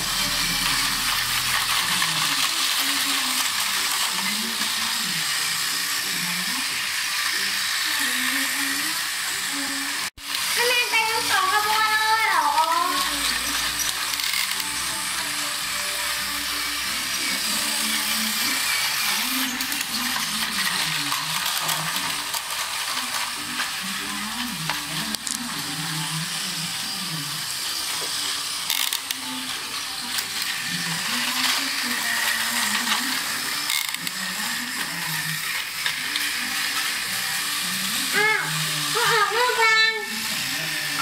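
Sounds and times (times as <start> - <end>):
toy train motors whirring: 0.0 - 41.0.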